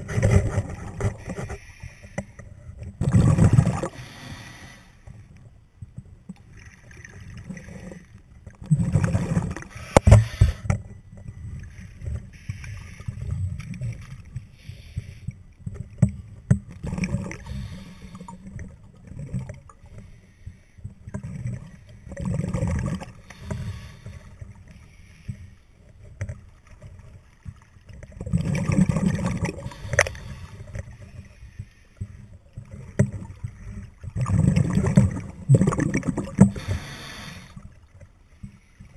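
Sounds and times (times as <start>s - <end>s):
exhaled bubbles gurgling underwater: 2.3s - 5.2s, 5.8s - 14.5s, 15.6s - 20.0s, 20.9s - 24.8s, 25.9s - 38.2s.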